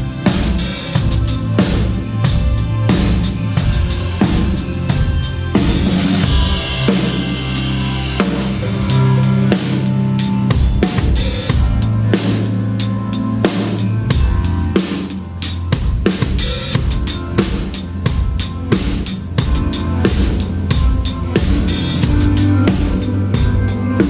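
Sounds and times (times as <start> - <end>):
drum kit playing: 0.0 - 24.0
slow pop song instruments: 0.0 - 24.0.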